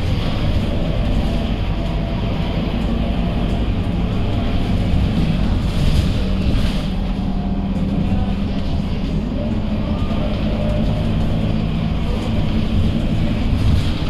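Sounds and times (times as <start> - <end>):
bus diesel engine drone: 0.0 - 14.0.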